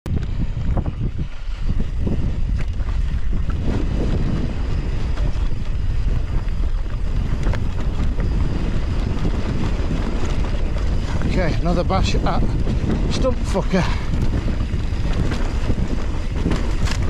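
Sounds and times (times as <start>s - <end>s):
bike clicks and rattles: 0.1s - 17.0s
tyres rumbling on dirt trail: 0.1s - 17.0s
wind buffeting microphone: 0.1s - 17.0s.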